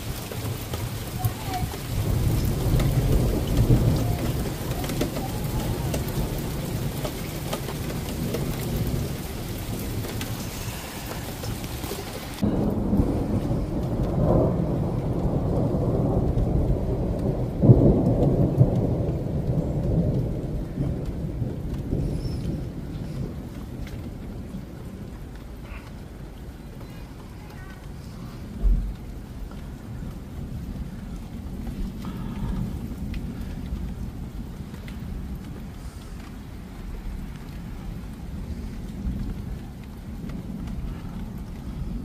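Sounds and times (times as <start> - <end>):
steady rain: 0.0 - 42.0
thunder rumbling: 0.0 - 42.0.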